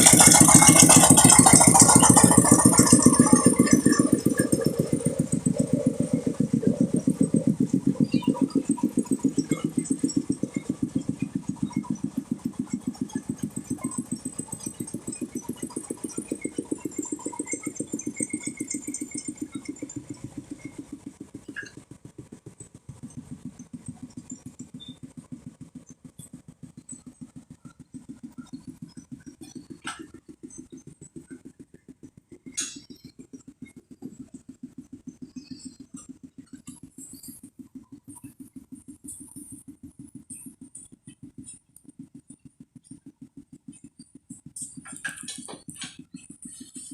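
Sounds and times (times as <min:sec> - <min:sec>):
machine engine running: 0:00.0 - 0:46.9.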